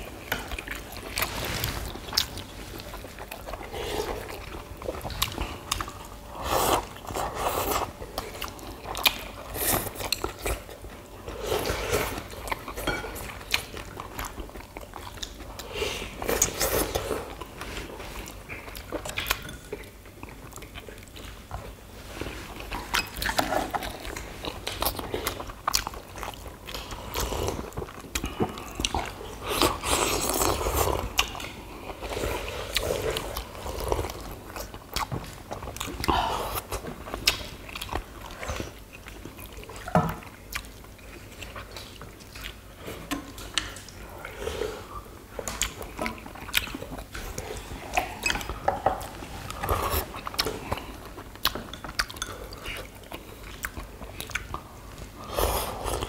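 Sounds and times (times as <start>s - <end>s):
people chewing and slurping: 0.0s - 56.0s.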